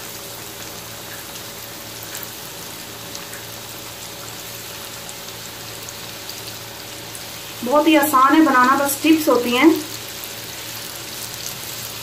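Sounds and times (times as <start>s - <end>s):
oil bubbling and sizzling: 0.0s - 12.0s.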